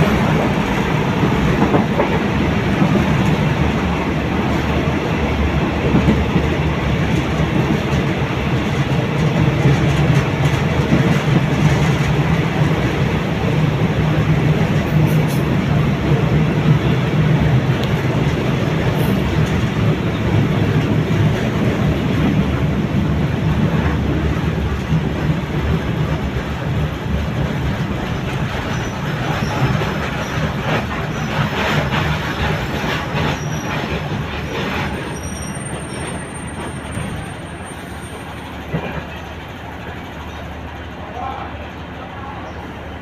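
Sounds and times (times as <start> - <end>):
train clattering: 0.0 - 43.0
train wheels rumbling: 0.0 - 43.0.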